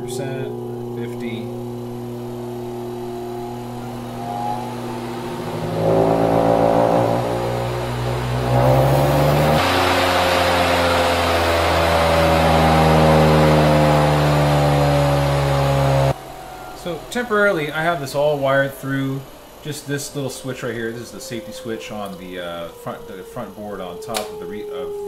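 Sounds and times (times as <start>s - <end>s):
electric motor whine rising: 0.0s - 25.0s.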